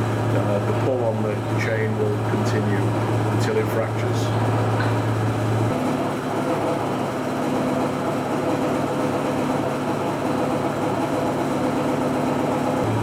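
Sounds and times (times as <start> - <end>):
hydraulic testing machine humming: 0.0 - 13.0.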